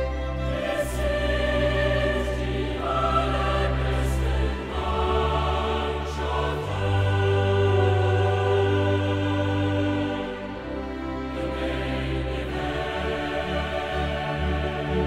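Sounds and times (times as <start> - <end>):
choir-like voices singing chords: 0.0 - 15.0.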